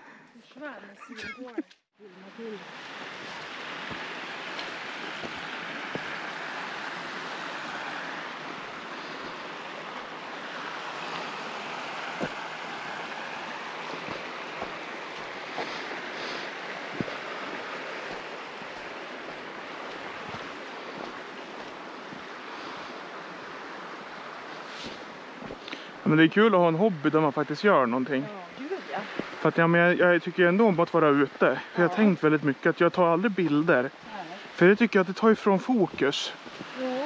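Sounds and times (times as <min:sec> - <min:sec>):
river rapid rushing: 0:02.0 - 0:32.4, 0:33.0 - 0:37.0.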